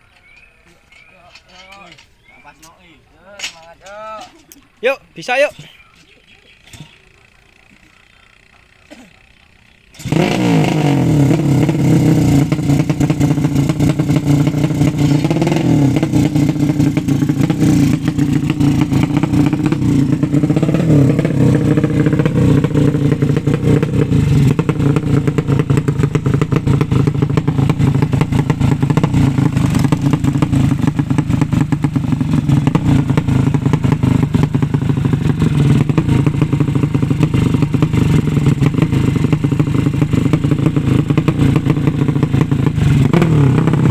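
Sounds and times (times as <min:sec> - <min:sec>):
motorcycle engine fast idle: 0:06.8 - 0:43.9.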